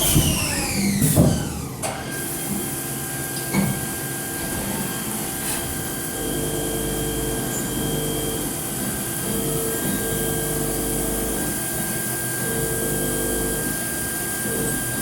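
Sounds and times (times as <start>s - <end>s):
machine tool running with whine: 0.0s - 15.0s.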